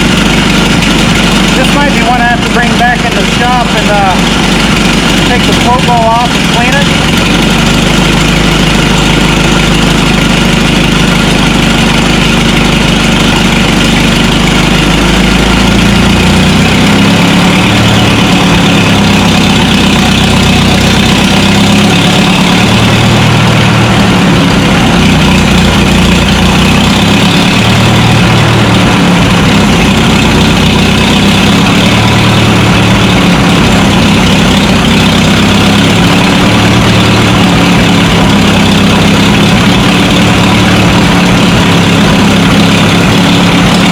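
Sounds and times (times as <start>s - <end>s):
tractor engine idling: 0.0s - 43.9s.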